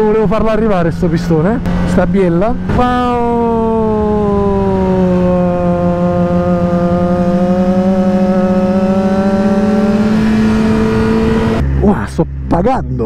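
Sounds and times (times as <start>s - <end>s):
motorcycle engine at high revs: 0.0s - 12.6s.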